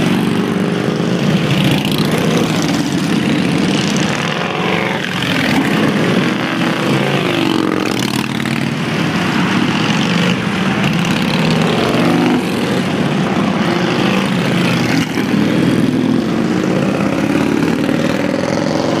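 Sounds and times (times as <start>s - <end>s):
motorcycles riding past: 0.0s - 19.0s.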